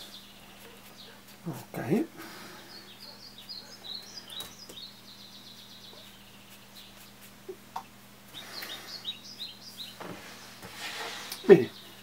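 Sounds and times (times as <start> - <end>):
small bird chirping: 0.0 - 1.4, 2.5 - 12.0.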